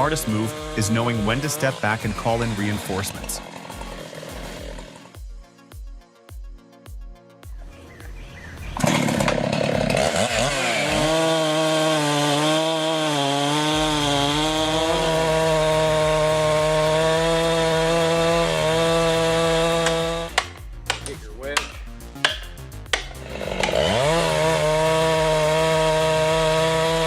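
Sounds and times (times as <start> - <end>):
chainsaw cutting wood: 0.0 - 5.2, 8.7 - 27.0.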